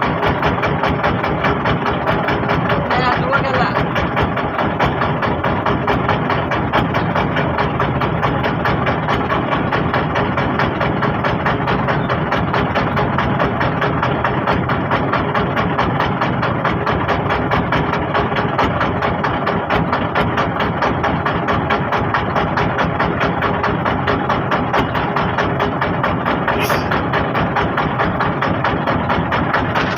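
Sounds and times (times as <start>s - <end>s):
boat engine running: 0.0s - 29.9s.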